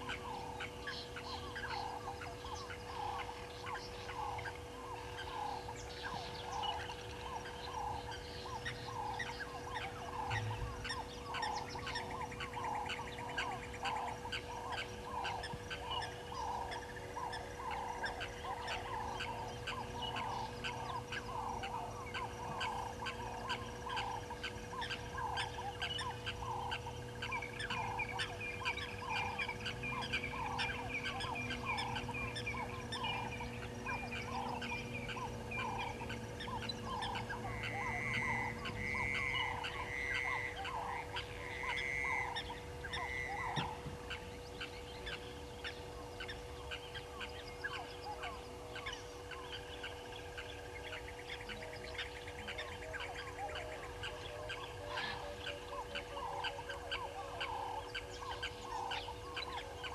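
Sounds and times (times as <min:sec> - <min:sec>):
low croak-like animal call: 0:00.0 - 0:59.9
steady hum: 0:00.0 - 0:59.9.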